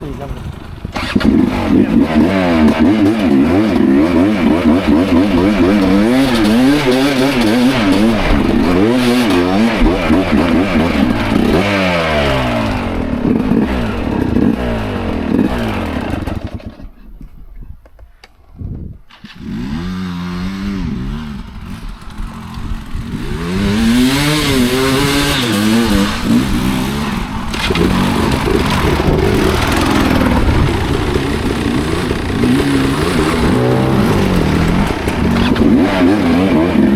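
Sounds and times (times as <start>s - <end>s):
motorcycle engine revving: 0.0s - 17.0s, 19.1s - 36.9s.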